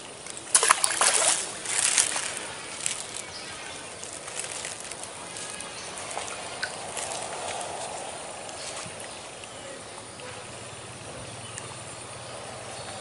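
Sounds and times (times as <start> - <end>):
faint outdoor hiss: 0.0 - 13.0
pond water splashing: 0.0 - 13.0.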